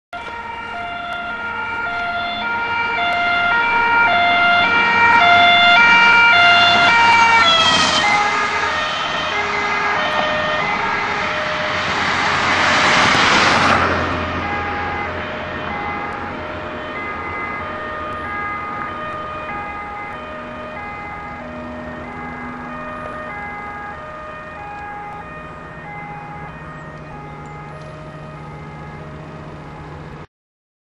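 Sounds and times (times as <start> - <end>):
two-tone emergency siren: 0.1 - 30.3
car passing with rush of noise: 0.2 - 30.3.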